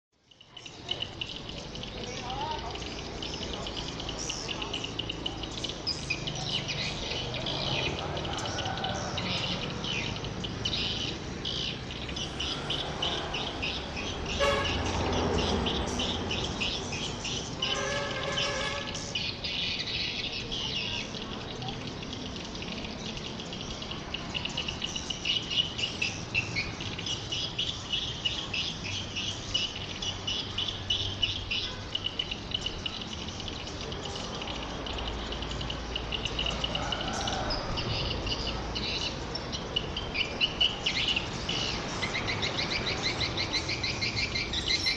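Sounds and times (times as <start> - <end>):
swiftlets chirping and twittering: 0.2 - 44.9.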